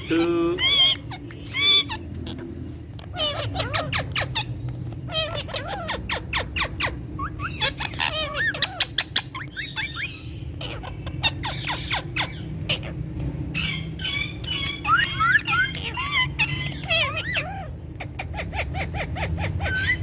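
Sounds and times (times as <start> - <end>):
parakeets chattering: 0.0 - 20.0
steady low hum: 0.0 - 20.0.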